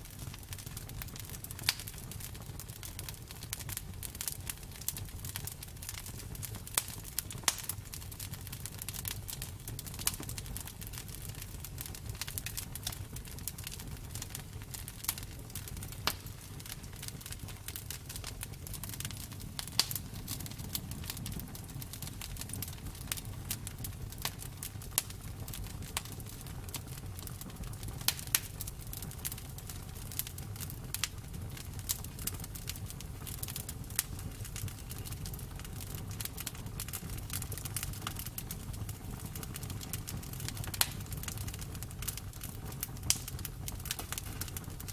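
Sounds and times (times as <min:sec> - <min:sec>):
low rumble of burning wood: 0:00.0 - 0:44.9
bonfire pops and snaps: 0:00.1 - 0:44.9.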